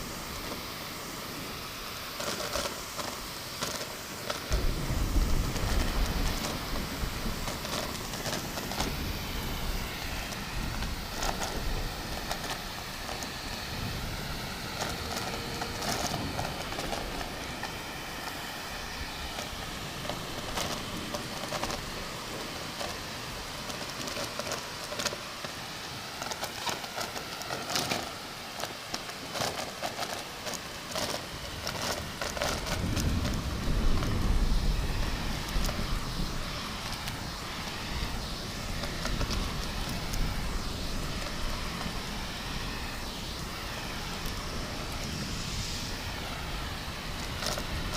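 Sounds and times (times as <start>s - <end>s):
thunder rumble: 0.0s - 26.1s, 30.4s - 47.9s
crackles: 0.0s - 47.9s
heavy rain: 0.0s - 47.9s
vacuum cleaner running: 0.0s - 47.9s.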